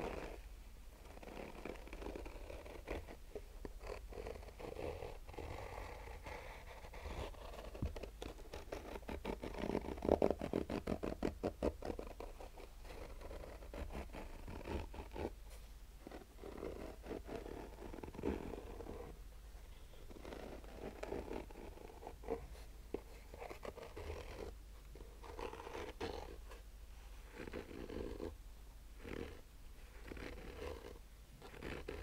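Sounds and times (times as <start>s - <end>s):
fingernails scratching fabric: 0.0s - 0.4s, 1.0s - 15.4s, 16.0s - 19.2s, 19.8s - 26.6s, 27.2s - 28.4s, 29.0s - 32.0s.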